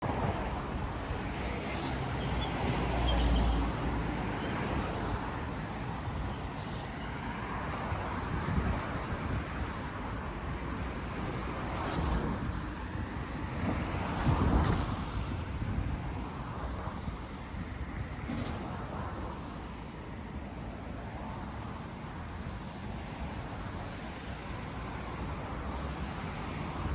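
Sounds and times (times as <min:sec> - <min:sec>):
highway traffic rushing: 0:00.0 - 0:26.9.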